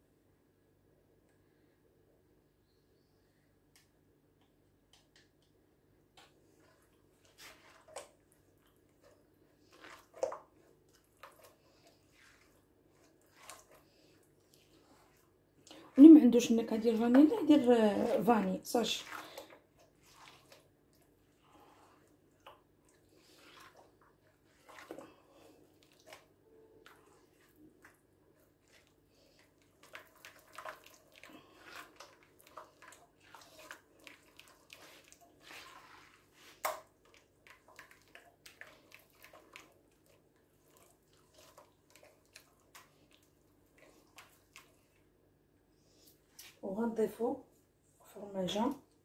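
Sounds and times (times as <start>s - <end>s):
hand squelching batter: 3.8s - 46.6s.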